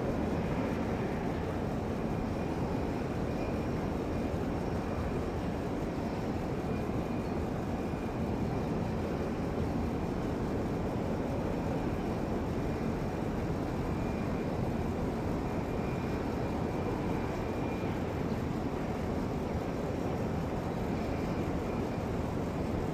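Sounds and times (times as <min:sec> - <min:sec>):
faint high whine: 0:00.0 - 0:22.9
jet engines rumbling: 0:00.0 - 0:22.9.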